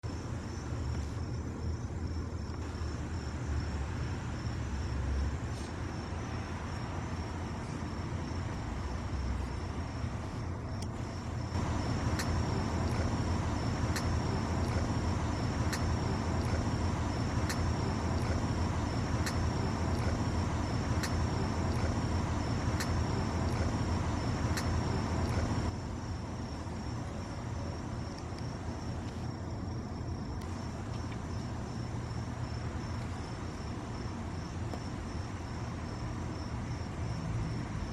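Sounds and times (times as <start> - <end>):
high insect trill: 0.0 - 37.9.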